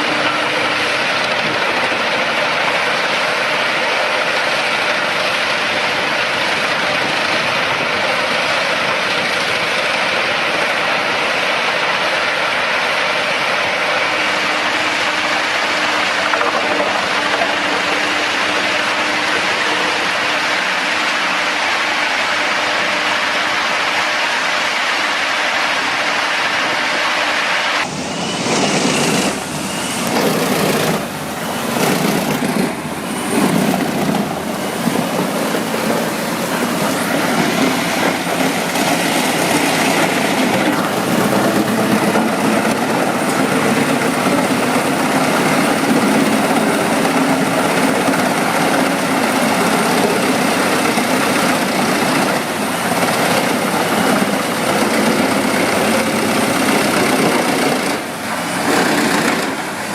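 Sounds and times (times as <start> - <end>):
wood chipper running: 0.0 - 21.0, 27.8 - 59.9
dense machine noise: 0.0 - 21.2, 27.7 - 59.9.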